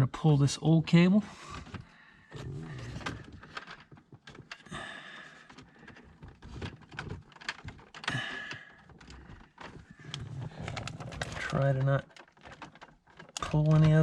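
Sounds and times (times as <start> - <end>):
hands clicking and scraping: 0.9 - 14.0.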